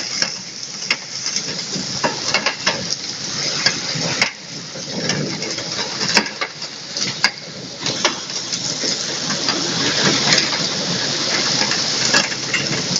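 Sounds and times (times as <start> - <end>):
hailstones clicking: 0.0 - 12.9
heavy rain and hail hissing: 0.0 - 12.9.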